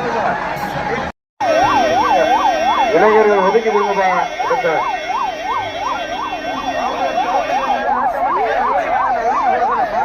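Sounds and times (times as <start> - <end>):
electronic siren wailing: 1.4 - 10.0.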